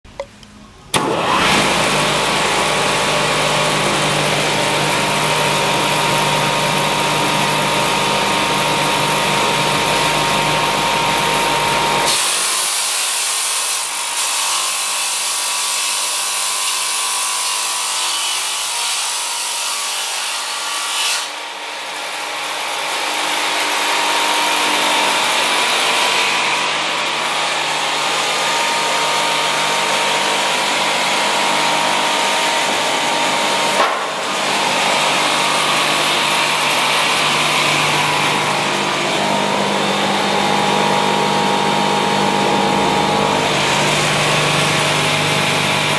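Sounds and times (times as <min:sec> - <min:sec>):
circular saw running: 0:00.9 - 0:45.9.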